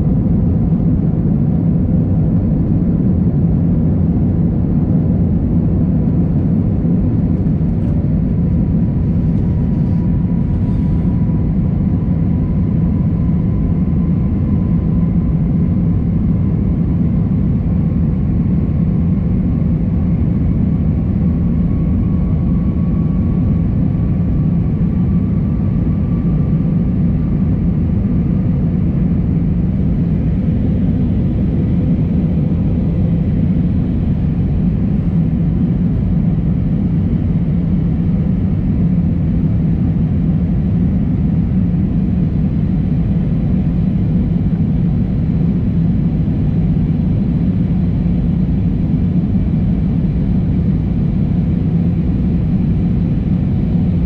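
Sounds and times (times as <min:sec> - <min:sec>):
jet airliner cabin drone: 0:00.0 - 0:54.0.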